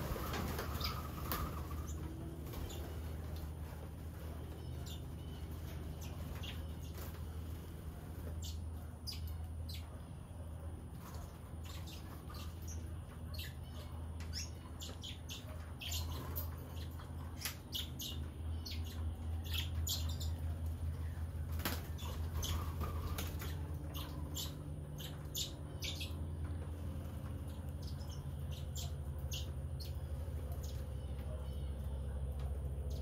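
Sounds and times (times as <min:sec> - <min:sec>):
small birds chirping: 0:00.0 - 0:33.0
steady low hum: 0:00.0 - 0:33.0.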